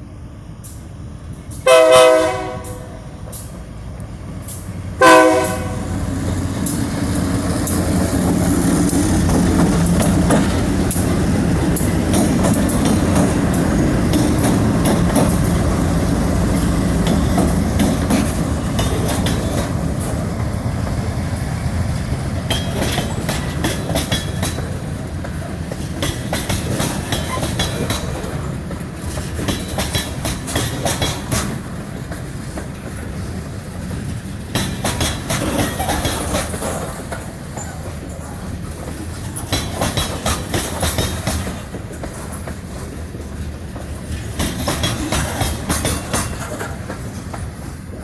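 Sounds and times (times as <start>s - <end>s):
diesel locomotive rumble: 0.0s - 48.0s
wheels clicking over rail joints: 0.6s - 48.0s
freight cars clattering: 4.4s - 48.0s.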